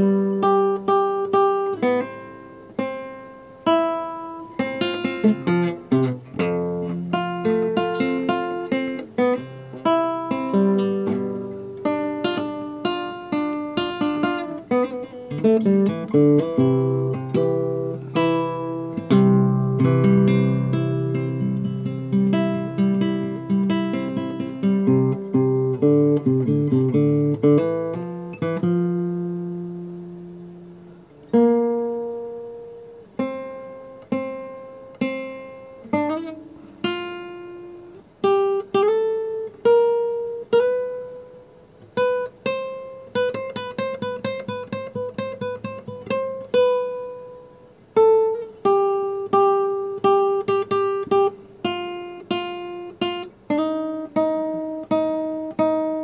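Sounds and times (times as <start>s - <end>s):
acoustic guitar playing: 0.0s - 56.0s.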